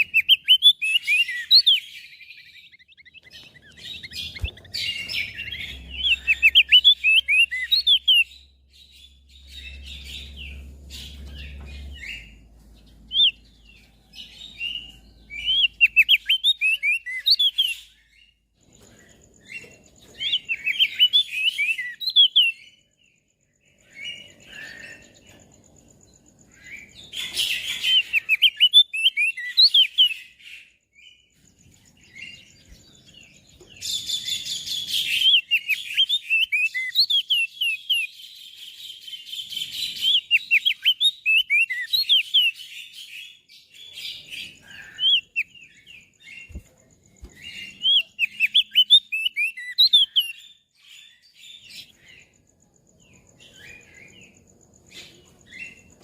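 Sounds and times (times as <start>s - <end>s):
bird chirping rapidly: 0.0s - 18.4s, 19.0s - 22.8s, 26.4s - 30.6s, 31.6s - 43.5s, 44.1s - 52.3s.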